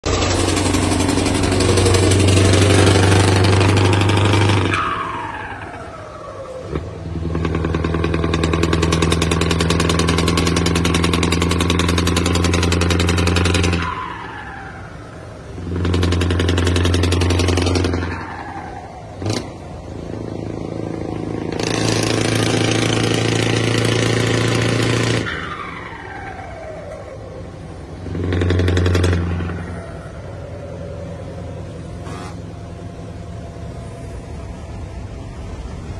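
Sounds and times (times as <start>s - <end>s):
truck diesel engine revving: 0.0s - 35.9s.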